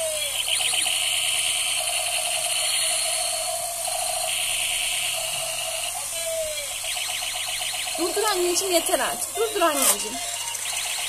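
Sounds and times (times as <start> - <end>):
electronic tone: 0.0 - 11.0
toy robot clicking whir: 0.0 - 11.0.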